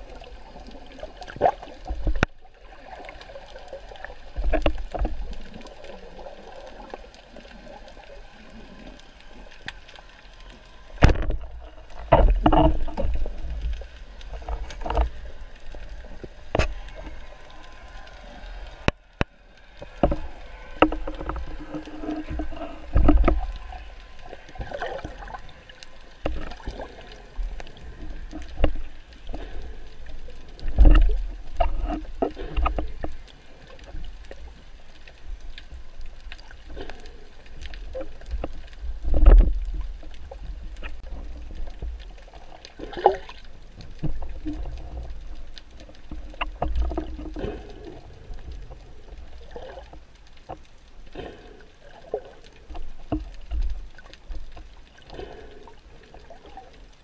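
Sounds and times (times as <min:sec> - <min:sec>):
underwater knocks and clunks: 0:00.0 - 0:02.4, 0:03.9 - 0:05.9, 0:10.9 - 0:17.2, 0:18.8 - 0:34.4, 0:35.1 - 0:57.0
low underwater rumble: 0:00.0 - 0:57.0
underwater water movement: 0:00.0 - 0:57.0.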